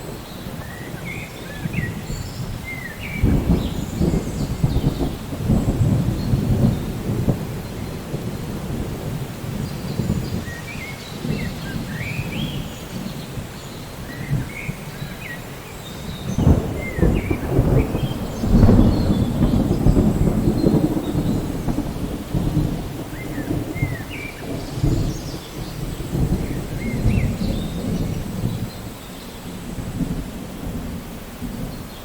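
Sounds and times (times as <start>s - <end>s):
low thunder rumble: 0.0s - 32.0s
steady rain: 0.0s - 32.0s.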